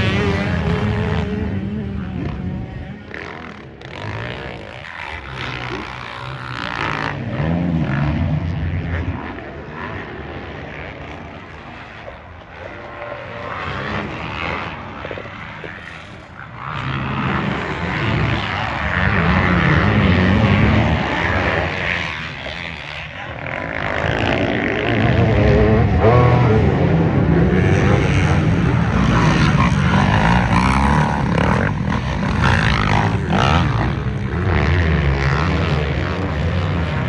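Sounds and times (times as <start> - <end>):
racing engines revving: 0.0 - 37.0.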